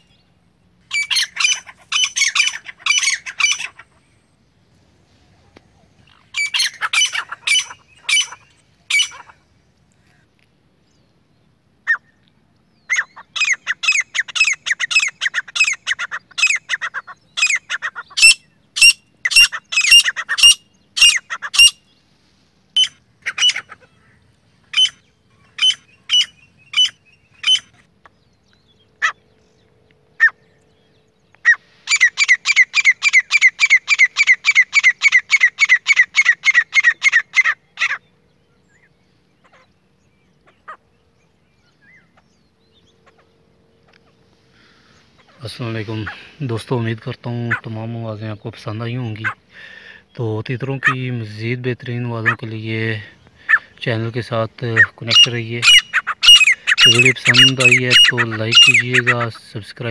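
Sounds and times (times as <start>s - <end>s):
francolin calling: 0.0s - 4.6s, 5.2s - 59.9s.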